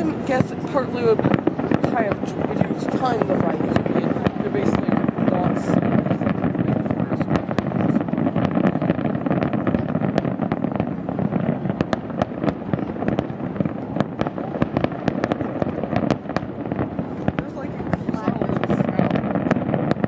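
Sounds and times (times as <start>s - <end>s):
fireworks bursting: 0.0s - 20.0s
fireworks cracking and crackling: 0.0s - 20.0s.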